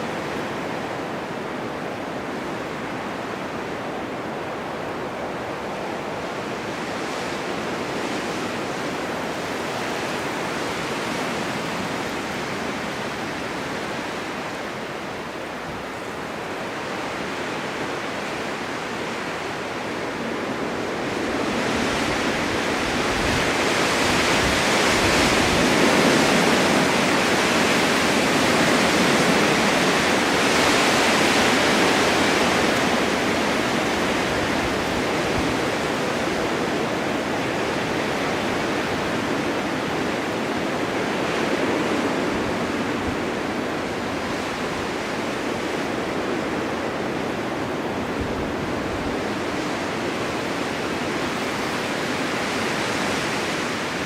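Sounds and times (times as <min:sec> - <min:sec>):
blizzard wind rushing: 0:00.0 - 0:54.0.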